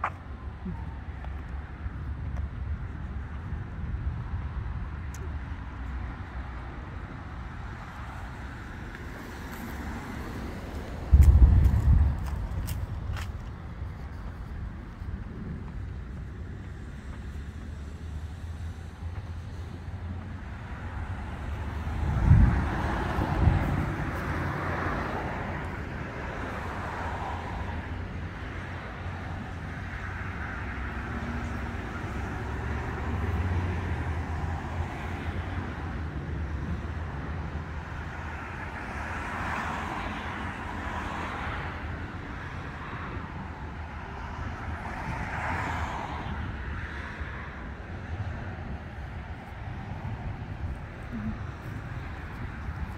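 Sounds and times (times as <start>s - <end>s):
cars passing: 0.0s - 52.9s.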